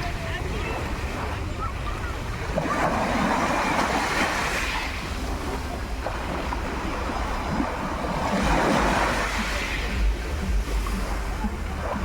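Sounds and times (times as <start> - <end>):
sea waves washing ashore: 0.0 - 12.0
wind on microphone: 0.0 - 12.0.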